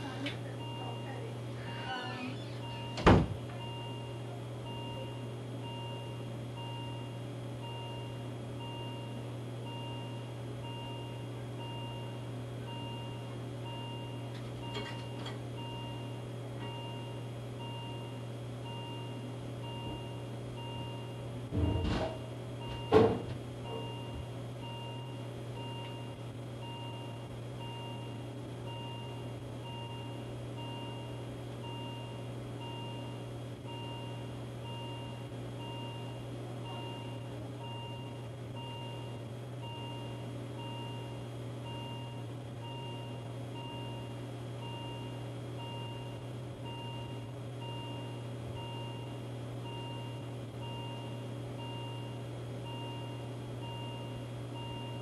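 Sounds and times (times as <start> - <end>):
constant low hum: 0.0 - 55.0
patient monitor beeping: 0.0 - 55.0.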